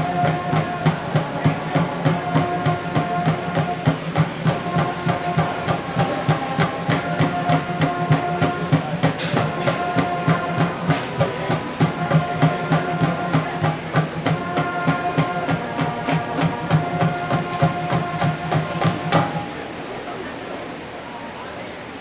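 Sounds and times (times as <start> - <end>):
marching band percussion: 0.0 - 19.6
held notes: 0.0 - 20.4.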